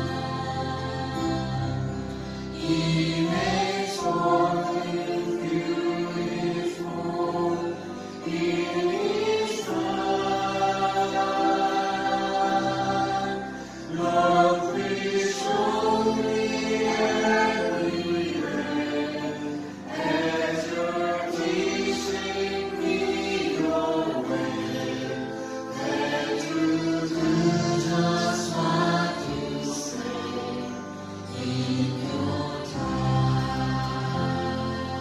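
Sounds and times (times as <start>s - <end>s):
group singing worship song: 0.0s - 35.0s.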